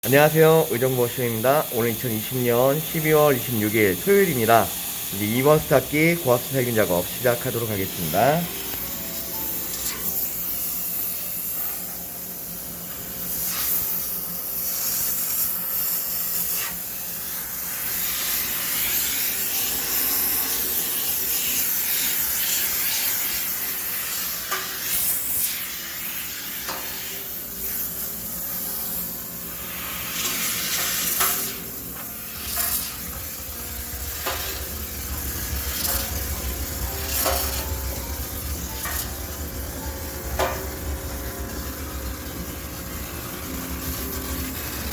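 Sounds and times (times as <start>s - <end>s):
steam cleaner hissing: 0.0s - 44.9s.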